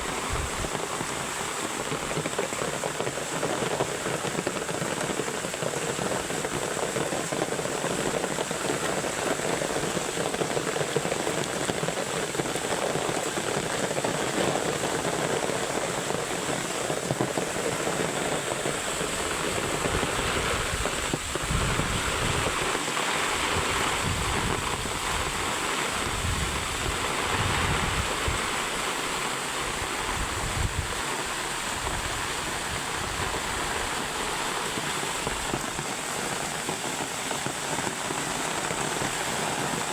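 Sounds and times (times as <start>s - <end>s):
fast-flowing river water: 0.0s - 39.9s
heavy rain pouring: 0.0s - 39.9s.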